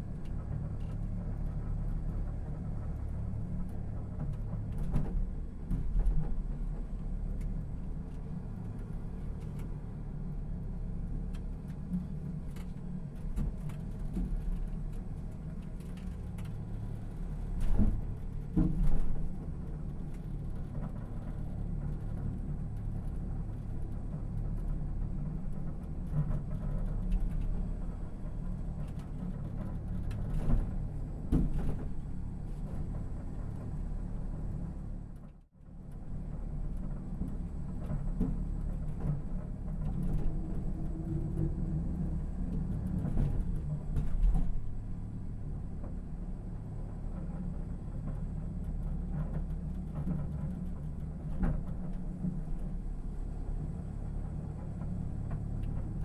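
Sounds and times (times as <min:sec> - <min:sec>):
low rumble of rail car: 0:00.0 - 0:56.0.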